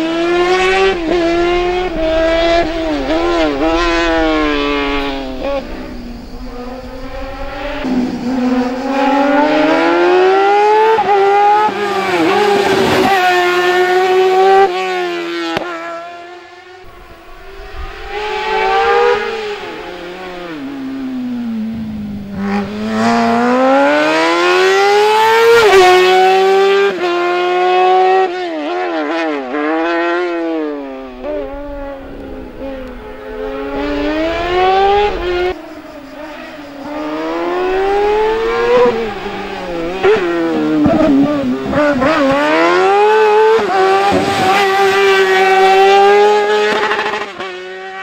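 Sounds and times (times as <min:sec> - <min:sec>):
race car engine revving: 0:00.0 - 0:48.0.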